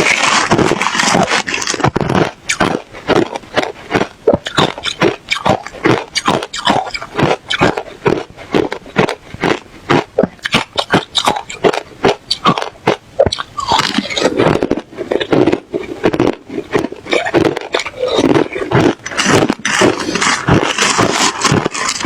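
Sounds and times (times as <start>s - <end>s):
person chewing ice: 0.0s - 22.0s.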